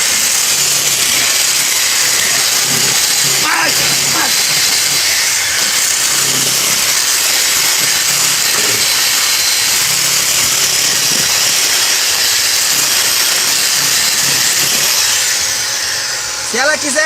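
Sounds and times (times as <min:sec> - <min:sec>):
electric drill scraping fish scales: 0:00.0 - 0:17.0.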